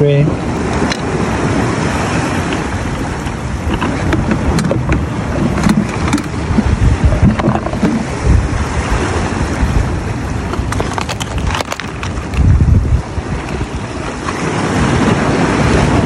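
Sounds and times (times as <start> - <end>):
ocean waves: 0.0 - 16.0
wind buffeting microphone: 0.0 - 16.0.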